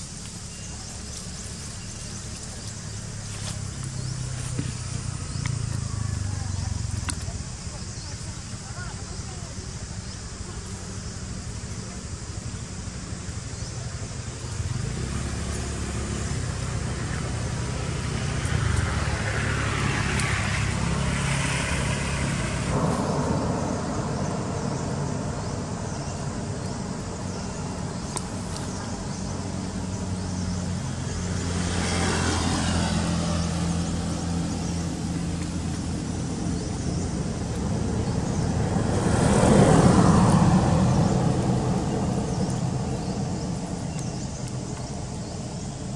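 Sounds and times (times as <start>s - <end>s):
vehicles driving past: 0.0s - 45.9s.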